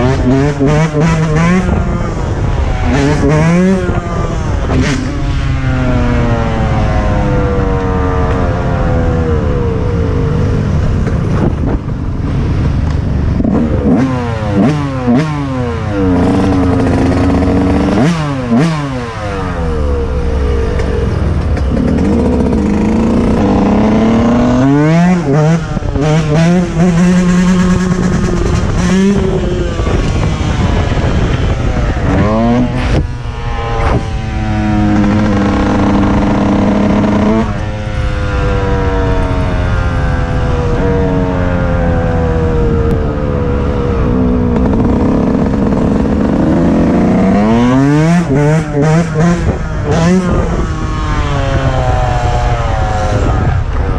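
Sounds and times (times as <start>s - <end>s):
dirt bike engine revving: 0.0s - 10.2s, 13.4s - 53.9s.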